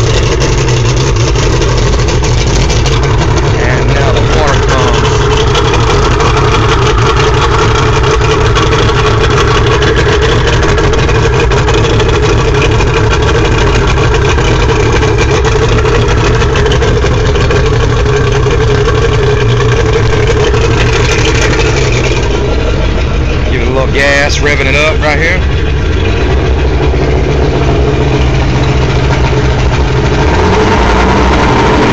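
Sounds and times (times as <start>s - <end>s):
outboard motor idling: 0.0s - 31.9s.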